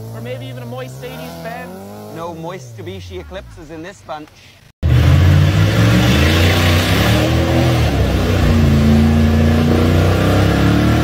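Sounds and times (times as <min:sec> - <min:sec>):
pickup truck engine revving: 0:00.0 - 0:03.4, 0:04.8 - 0:11.0.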